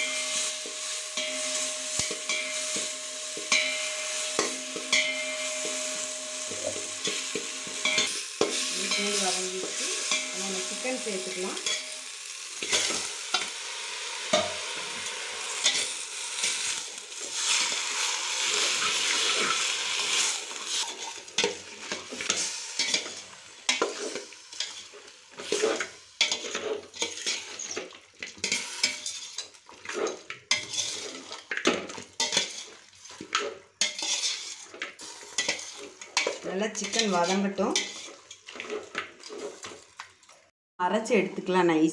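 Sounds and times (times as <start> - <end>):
spoon scraping and clinking on pot: 0.0 - 12.0, 15.6 - 16.6, 18.6 - 39.8
chicken sizzling in hot oil: 0.0 - 40.5.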